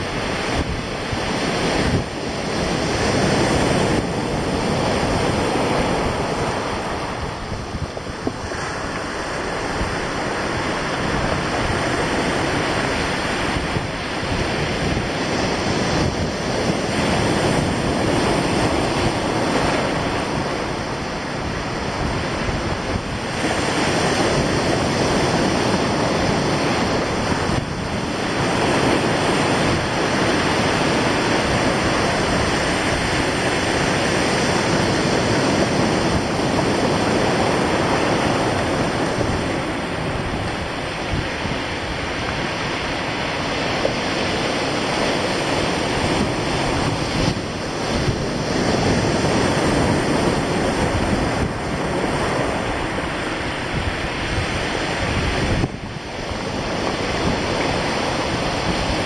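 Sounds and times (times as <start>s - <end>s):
surf breaking on rocks: 0.0s - 59.0s
wind on microphone: 0.0s - 59.0s.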